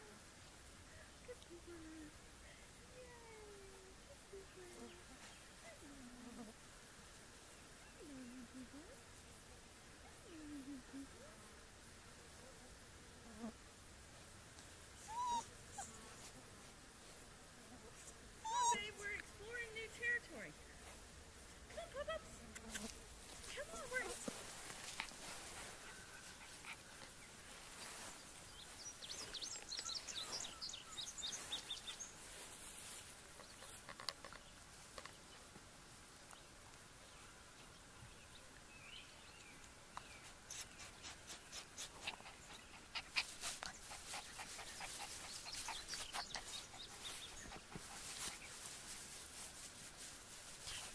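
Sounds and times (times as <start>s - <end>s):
puppies moving in long grass: 0.0s - 12.6s, 13.4s - 37.0s, 37.8s - 50.9s.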